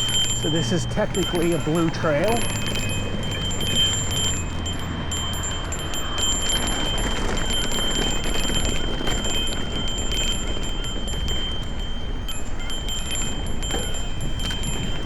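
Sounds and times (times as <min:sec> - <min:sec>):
bike clicks and rattles: 0:00.0 - 0:15.0
tyres rumbling on dirt: 0:00.0 - 0:15.0
wind on microphone: 0:00.0 - 0:15.0.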